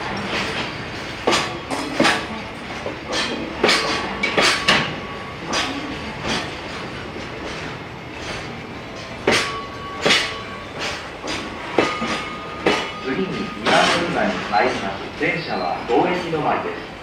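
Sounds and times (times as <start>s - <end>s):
freight train rolling rumble: 0.0s - 17.0s
wheels clacking over rail joints: 0.0s - 17.0s.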